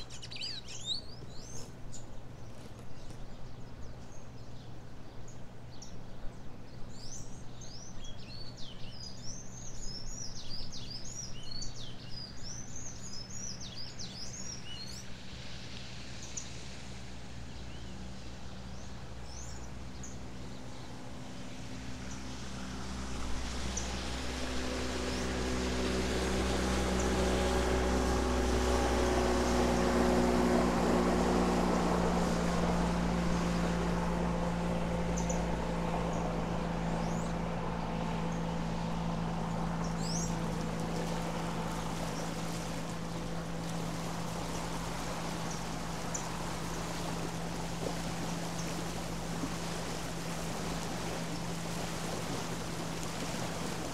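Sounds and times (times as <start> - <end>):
motorboat engine droning: 0.0 - 53.9.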